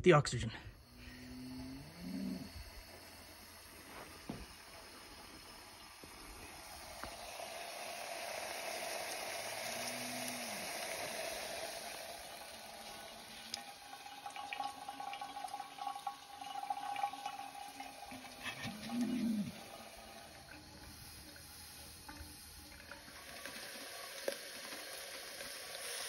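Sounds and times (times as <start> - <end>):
cryogenic liquid hissing: 0.6 - 26.0.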